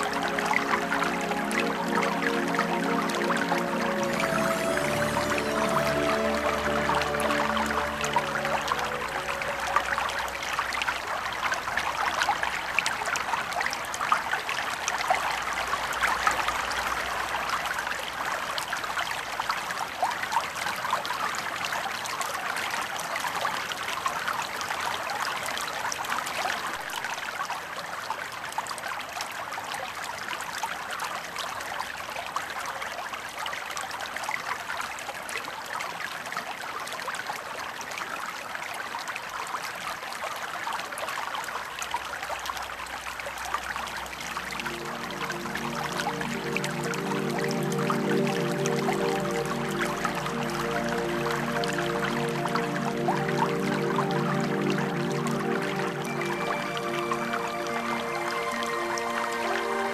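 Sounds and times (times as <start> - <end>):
shallow river water trickling: 0.0 - 59.9.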